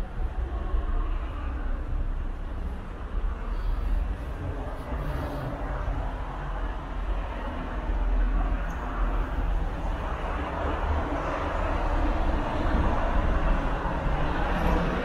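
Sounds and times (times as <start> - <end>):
tyre and road noise: 0.0 - 15.0.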